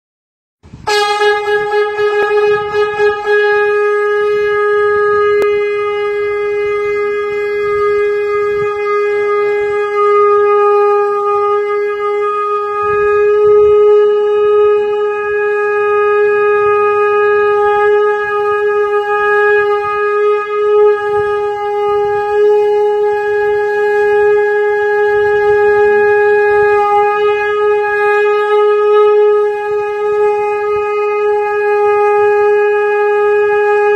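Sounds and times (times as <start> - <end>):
conch shell blown: 0.7 - 33.9.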